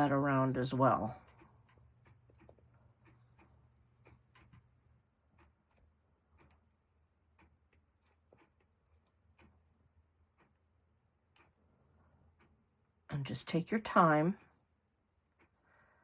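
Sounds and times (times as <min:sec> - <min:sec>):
faint regular ticking: 0:00.0 - 0:13.4, 0:14.4 - 0:16.0
low steady hum: 0:00.0 - 0:16.0.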